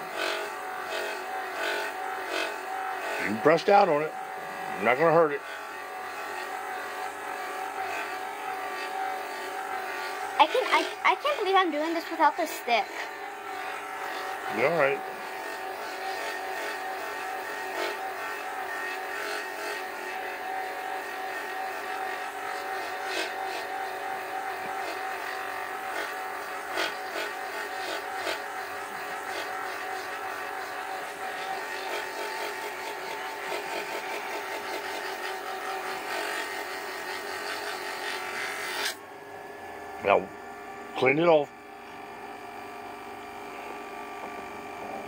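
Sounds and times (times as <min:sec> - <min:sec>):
stone grinding on spinning disc: 0:00.0 - 0:39.0.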